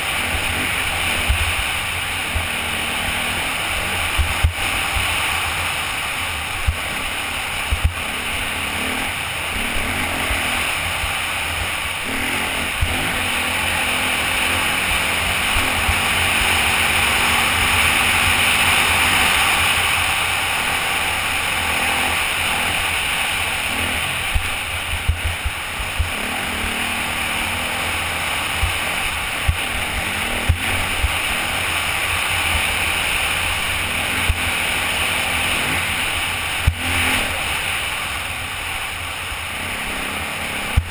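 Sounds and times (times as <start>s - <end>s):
motorcycle engine running: 0.0s - 40.9s
rushing wind noise: 0.0s - 40.9s.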